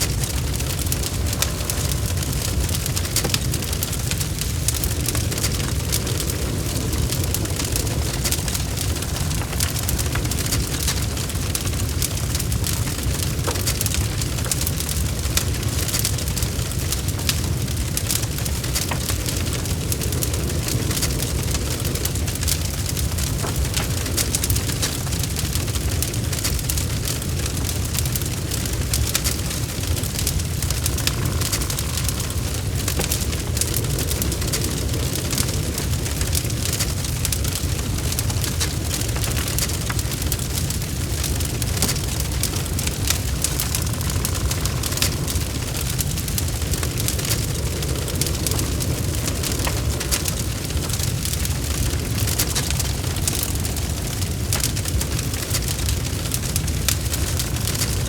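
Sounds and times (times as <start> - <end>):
fire crackling and popping: 0.0 - 58.0
fire flames rumbling: 0.0 - 58.0.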